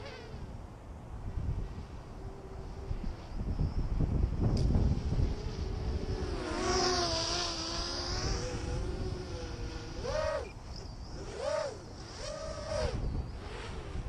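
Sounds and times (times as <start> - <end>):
drone motors whining: 0.0 - 14.0
wind rumbling on microphone: 0.0 - 14.0.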